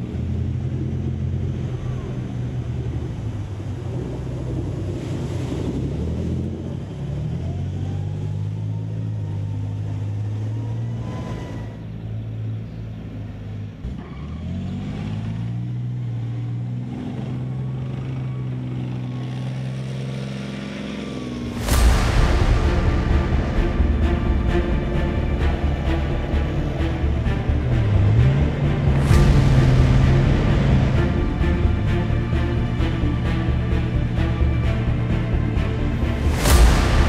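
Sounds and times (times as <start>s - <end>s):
tank diesel engine running: 0.0s - 37.0s.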